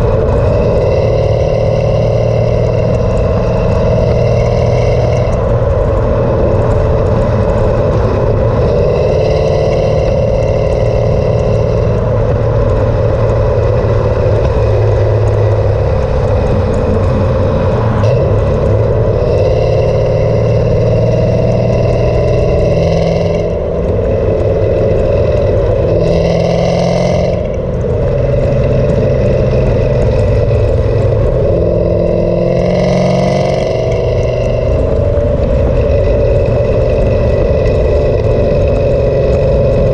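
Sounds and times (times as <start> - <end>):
car engine revving hard: 0.0 - 39.9
wind rush: 0.0 - 39.9.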